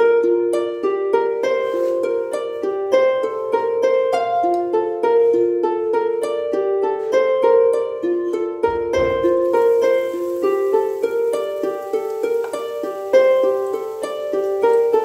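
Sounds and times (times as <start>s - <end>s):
plucked harp-like melody: 0.0s - 15.0s.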